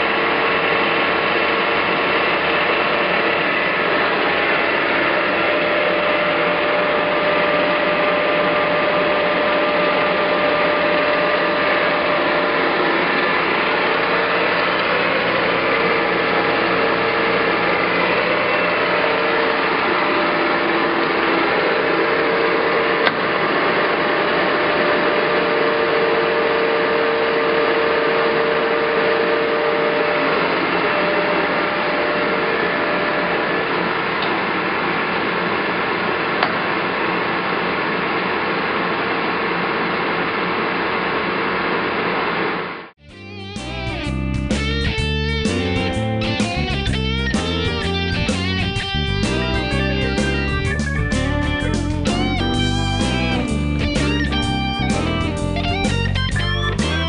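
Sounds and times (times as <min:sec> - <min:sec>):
lathe running: 0:00.0 - 0:42.9, 0:43.6 - 0:57.0.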